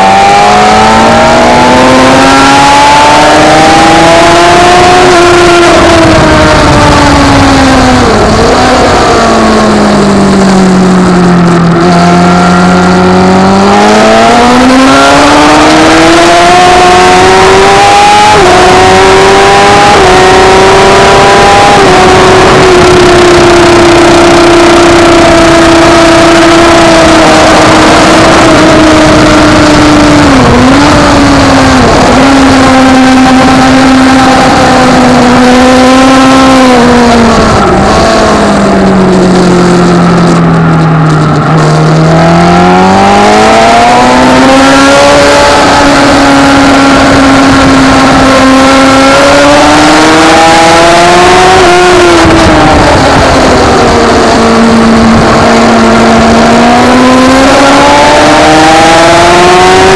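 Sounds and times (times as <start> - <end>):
racing motorcycle engine revving: 0.0 - 59.9
wind rush: 0.0 - 59.9.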